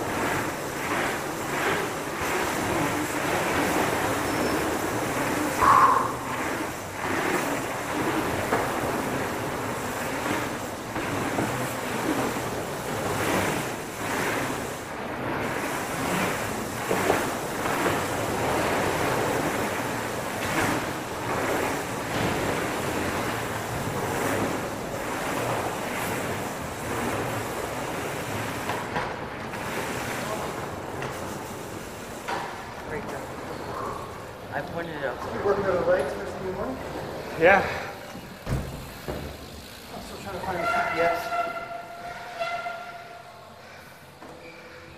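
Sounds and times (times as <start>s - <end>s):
bike bump: 0.0s - 34.5s, 37.0s - 43.1s
bike tyres rolling on dirt: 0.0s - 44.9s.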